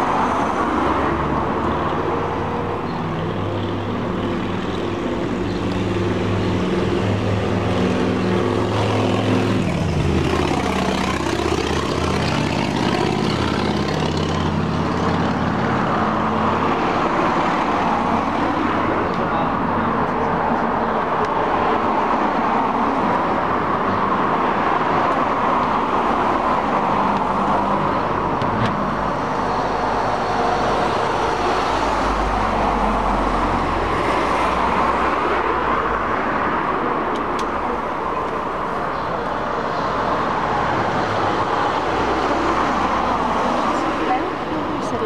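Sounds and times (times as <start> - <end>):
cars passing: 0.0 - 45.0.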